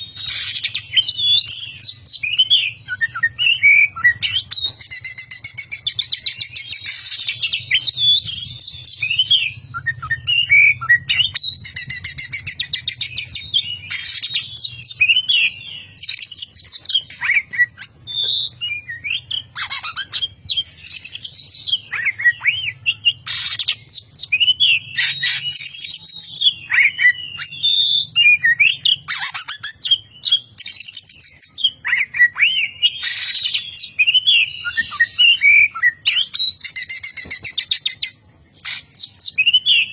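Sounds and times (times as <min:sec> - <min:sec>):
songbird singing with rattling trills: 0:00.0 - 0:39.9.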